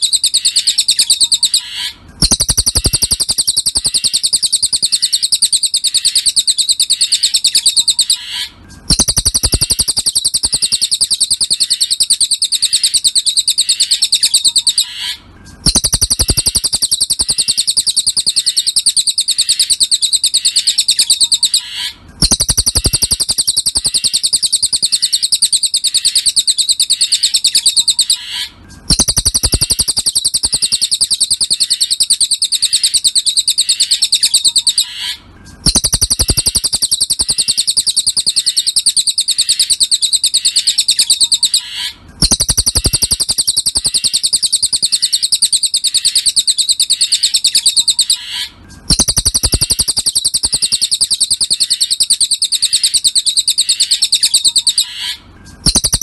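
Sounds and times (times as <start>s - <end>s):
bird chattering trill: 0.0s - 56.0s.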